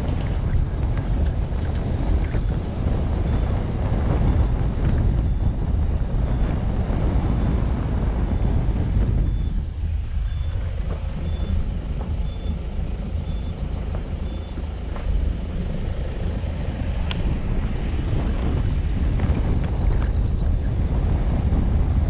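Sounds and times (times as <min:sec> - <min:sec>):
wind and tyre rumble: 0:00.0 - 0:22.0.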